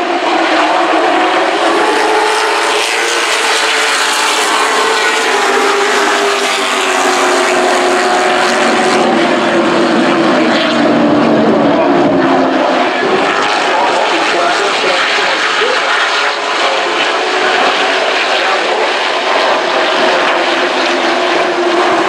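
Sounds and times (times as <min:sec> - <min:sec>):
race truck engines: 0:00.0 - 0:22.0.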